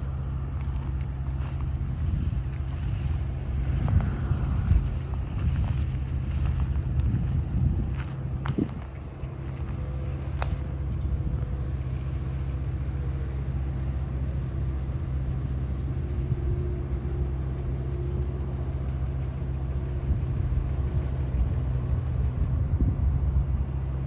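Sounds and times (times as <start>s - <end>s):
constant low hum: 0.0s - 24.0s
low mechanical rumble: 0.0s - 24.0s.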